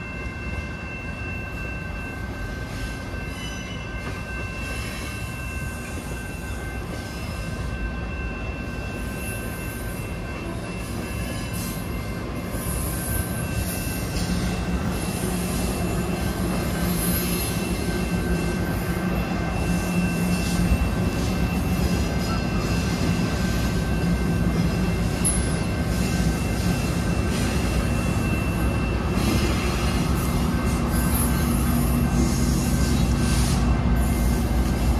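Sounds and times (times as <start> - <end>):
train rumble: 0.0 - 34.9
train wheels squealing on rails: 0.0 - 34.9.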